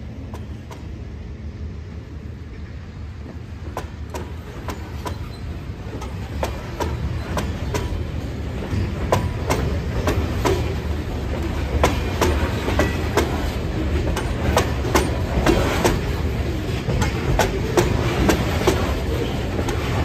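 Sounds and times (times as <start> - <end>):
freight train rumble: 0.0 - 20.0
wheels clacking over rail joints: 3.2 - 20.0.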